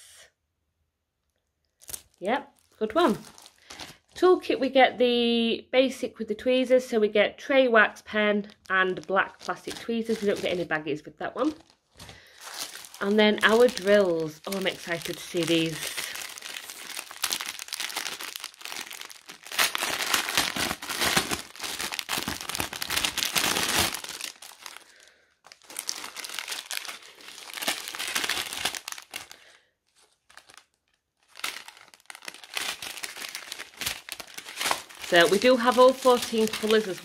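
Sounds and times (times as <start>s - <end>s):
cellophane and plastic bags crinkling: 1.7s - 4.3s, 8.4s - 37.0s.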